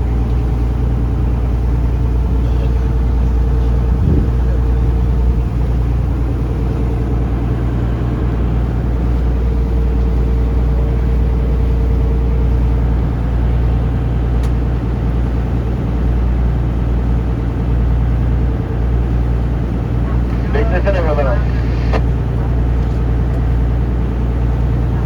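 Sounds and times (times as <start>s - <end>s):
boat engine droning: 0.0s - 25.0s
wind: 0.0s - 25.0s.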